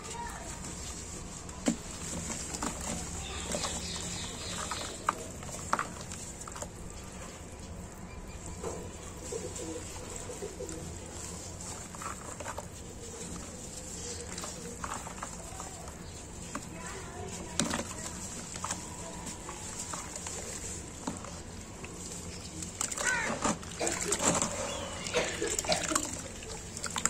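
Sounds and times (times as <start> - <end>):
dry cement crumbling: 0.2 - 7.8, 8.6 - 27.0.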